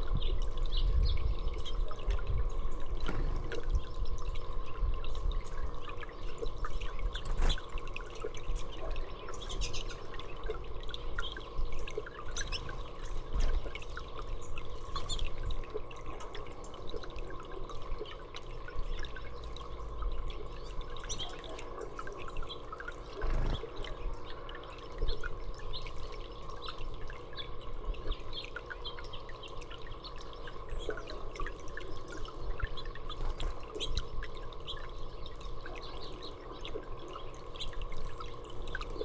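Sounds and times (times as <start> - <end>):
faint steady hum: 0.0 - 39.0
water trickling and dripping: 0.0 - 39.0.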